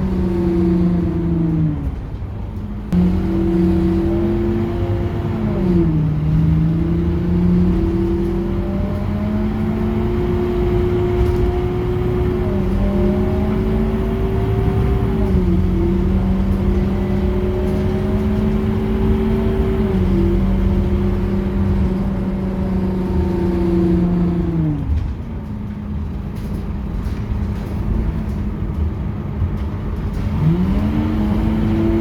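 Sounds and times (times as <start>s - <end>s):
bus whine: 0.0s - 32.0s
diesel engine droning: 0.0s - 32.0s.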